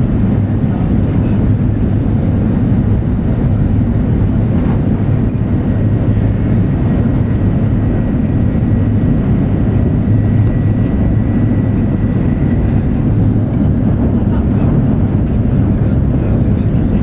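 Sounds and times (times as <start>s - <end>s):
train rumble inside cabin: 0.0s - 17.0s.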